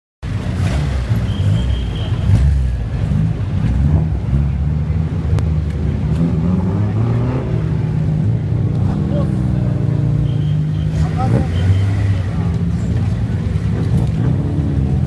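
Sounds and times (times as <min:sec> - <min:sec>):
loud car exhausts rumbling: 0:00.2 - 0:15.0.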